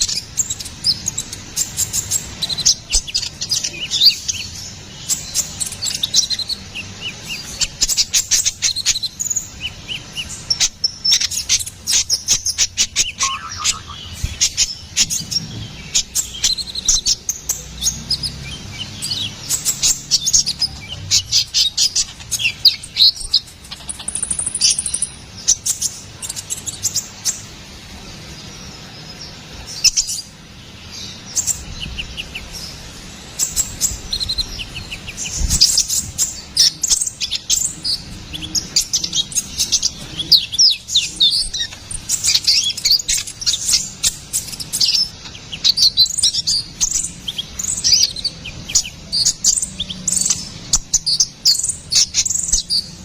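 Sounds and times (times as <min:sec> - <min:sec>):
sunbird twittering song: 0:00.0 - 0:53.0.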